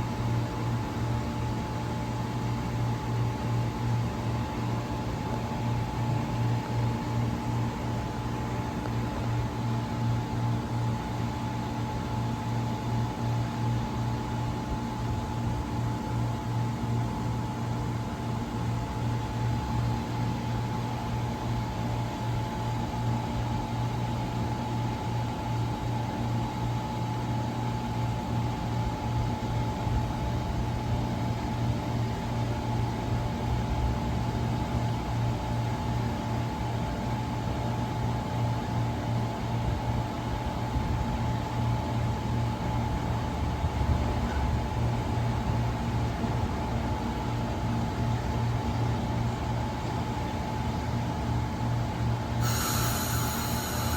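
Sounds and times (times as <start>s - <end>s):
train mechanical hum: 0.0s - 53.9s.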